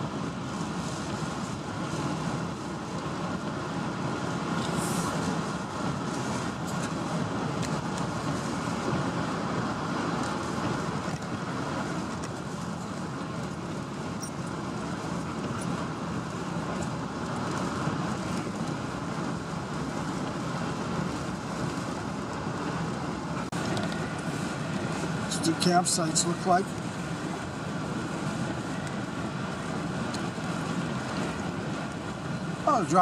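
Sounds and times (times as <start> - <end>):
truck engine running: 0.0 - 33.0
tyres rolling on road: 0.0 - 33.0.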